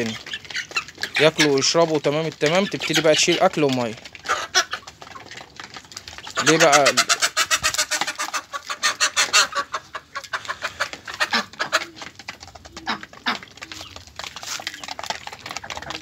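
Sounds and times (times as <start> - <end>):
beaks tapping plastic dishes: 0.0 - 16.0
hen clucks: 0.0 - 16.0.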